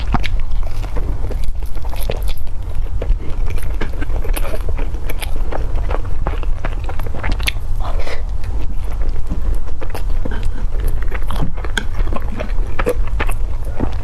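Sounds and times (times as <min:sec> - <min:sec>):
chewing with wet mouth smacks: 0:00.0 - 0:14.0
steady low hum: 0:00.0 - 0:14.0.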